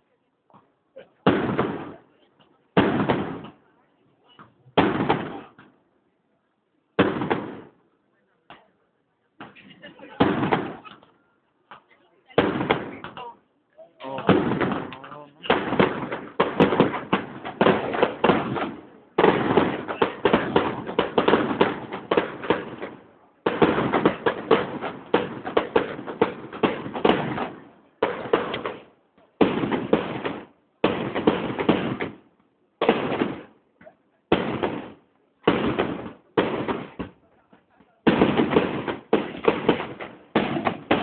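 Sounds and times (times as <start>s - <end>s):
fireworks bangs and crackling: 1.2s - 3.9s, 4.5s - 5.8s, 6.9s - 7.8s, 9.4s - 11.1s, 11.7s - 13.4s, 14.0s - 41.0s.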